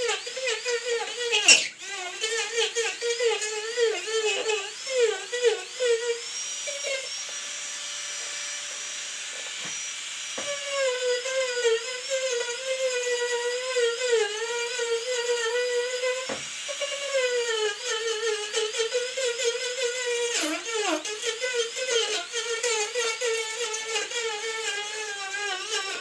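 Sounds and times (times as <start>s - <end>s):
micro motor cutter whining: 0.0s - 26.0s.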